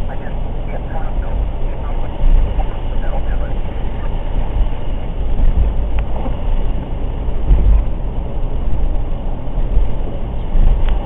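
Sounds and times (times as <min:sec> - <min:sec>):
wind gusting against microphone: 0:00.0 - 0:11.0.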